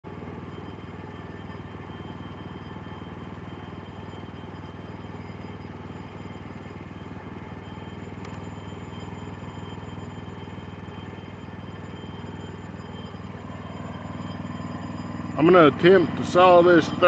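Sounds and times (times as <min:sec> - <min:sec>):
small gas engine running: 0:00.0 - 0:17.0.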